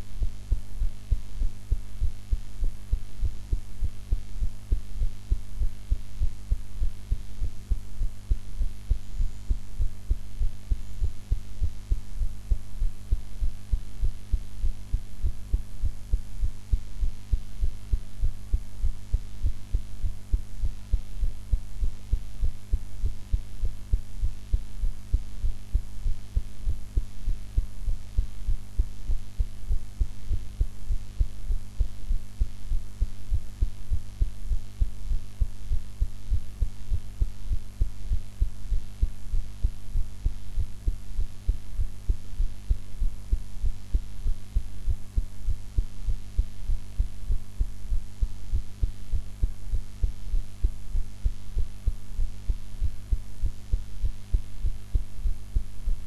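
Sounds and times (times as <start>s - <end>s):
heartbeat thumps: 0.0s - 56.0s
steady low hum: 0.0s - 56.0s.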